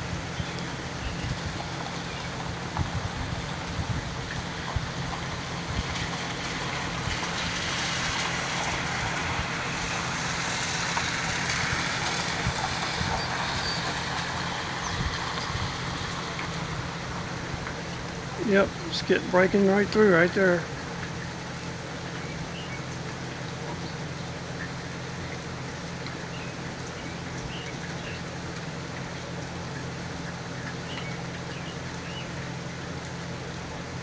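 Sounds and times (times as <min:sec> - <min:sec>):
rainfall hiss: 0:00.0 - 0:34.0
runoff water: 0:00.0 - 0:34.0.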